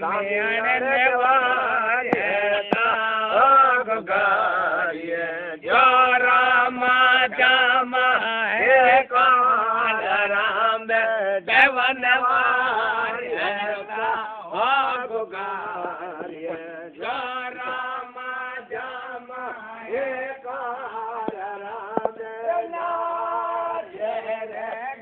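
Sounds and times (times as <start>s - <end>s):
man chanting: 0.0s - 25.0s.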